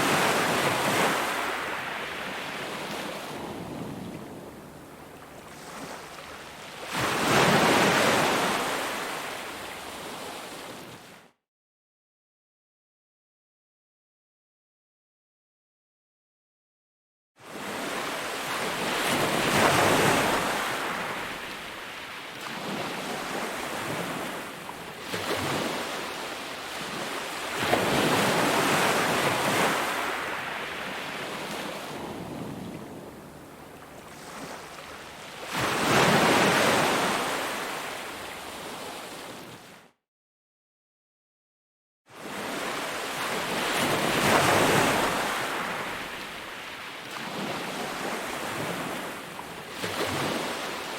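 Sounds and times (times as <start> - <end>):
ocean waves breaking: 0.0 - 10.8, 17.5 - 39.7, 42.2 - 50.9.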